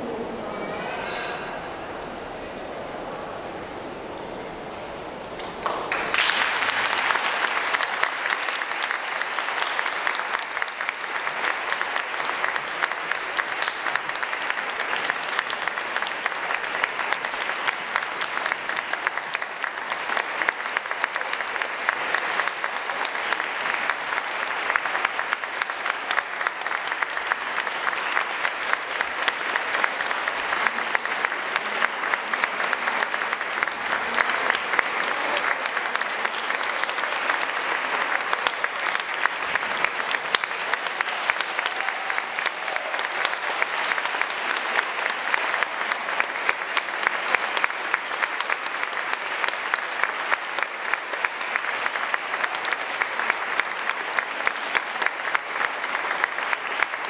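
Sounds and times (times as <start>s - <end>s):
audience applauding: 5.4s - 57.0s.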